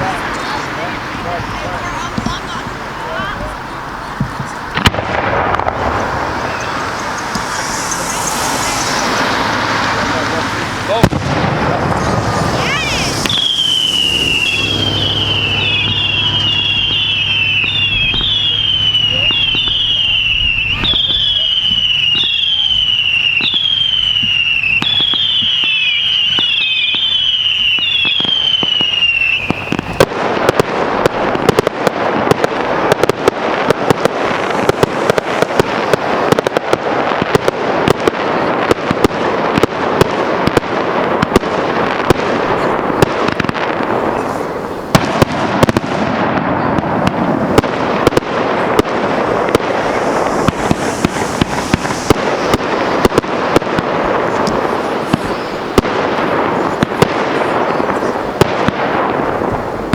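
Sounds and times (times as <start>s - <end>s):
firework crackling and pops: 0.0s - 59.9s
firework whistles falling in pitch: 4.2s - 30.2s, 32.3s - 38.0s, 41.3s - 58.4s.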